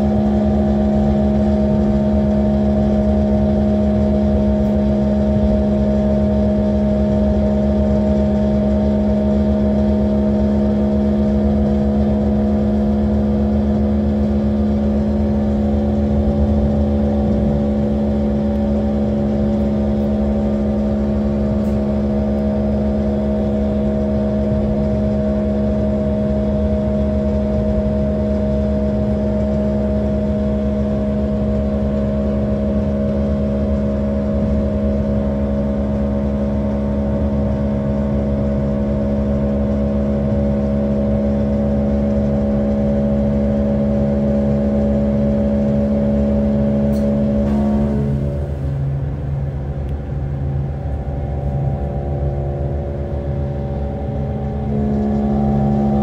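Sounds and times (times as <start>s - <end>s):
low running rumble: 0.0s - 56.0s
train diesel engine running: 0.0s - 56.0s.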